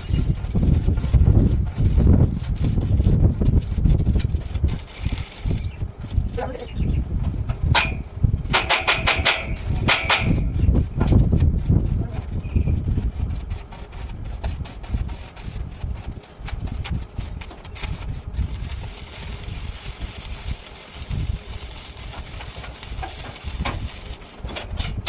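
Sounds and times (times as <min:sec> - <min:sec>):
welding arc crackling and hissing: 0:00.0 - 0:06.8, 0:08.5 - 0:12.2, 0:12.8 - 0:25.0.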